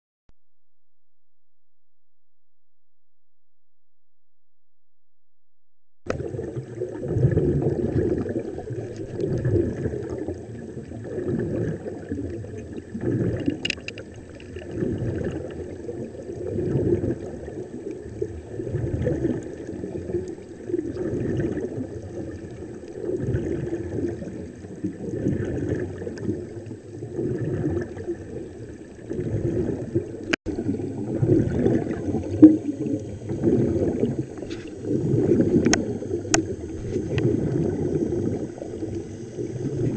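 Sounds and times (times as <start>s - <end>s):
underwater air bubbling: 6.1s - 39.9s.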